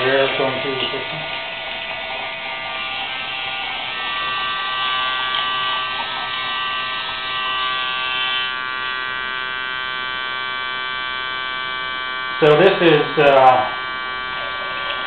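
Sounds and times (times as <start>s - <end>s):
electric water pump humming: 0.0s - 15.0s.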